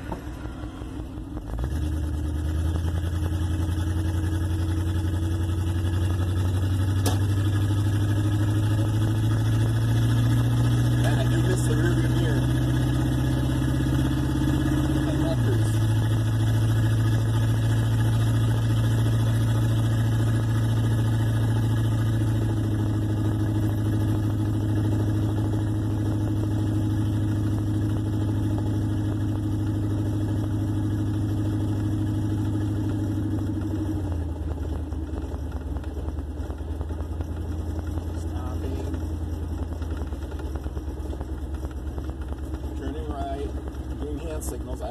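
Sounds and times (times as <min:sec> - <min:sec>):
car engine drone from inside: 0:00.0 - 0:44.9.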